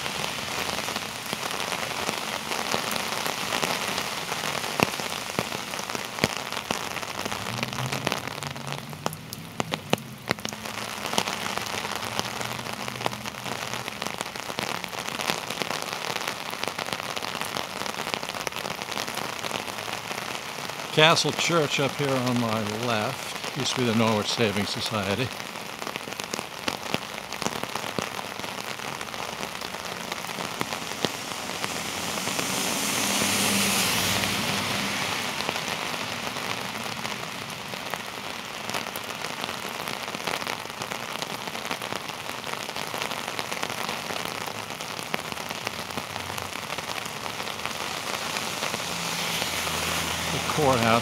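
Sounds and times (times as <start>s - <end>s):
heavy rain on street: 0.0s - 51.0s.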